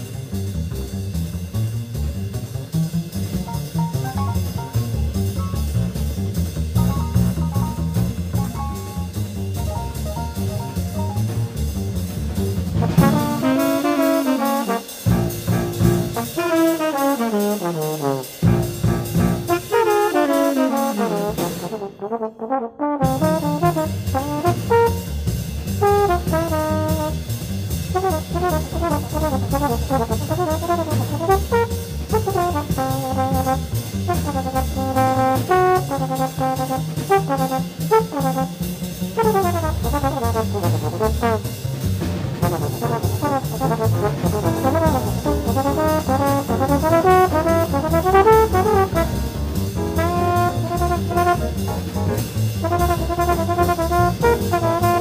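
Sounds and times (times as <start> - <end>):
bass notes: 0.0 - 21.9, 22.8 - 55.0
drums: 0.0 - 55.0
trombone jazz solo: 0.0 - 55.0.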